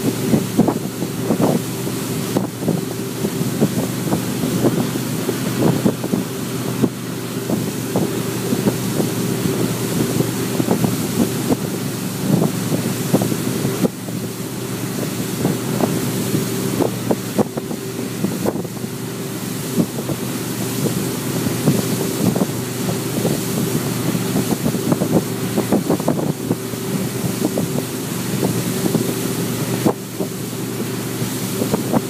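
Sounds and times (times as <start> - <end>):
motorboat engine running: 0.0 - 32.0
rush of boat wake: 0.0 - 32.0
wind buffeting microphone: 0.0 - 32.0.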